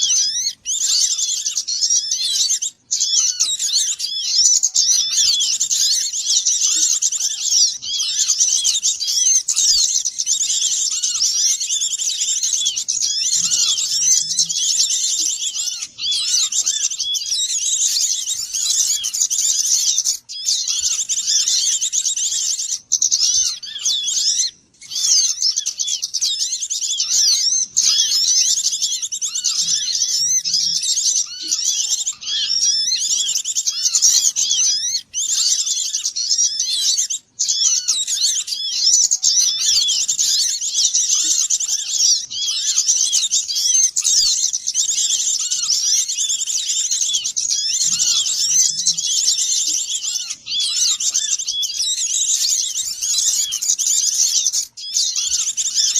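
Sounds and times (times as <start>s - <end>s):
lower whistled bird notes: 0.0s - 55.9s
songbirds chirping and twittering: 0.0s - 55.9s.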